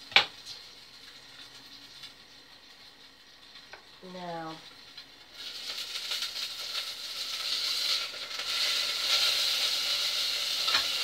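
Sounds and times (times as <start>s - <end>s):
sausages sizzling in a pan: 0.0s - 11.0s.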